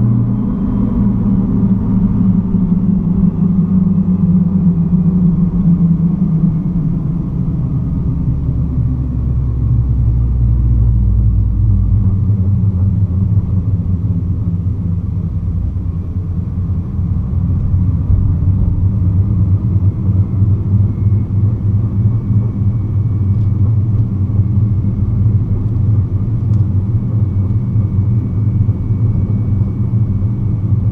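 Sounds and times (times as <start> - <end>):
car engine rumbling: 0.0 - 30.9
deep drone: 0.0 - 30.9.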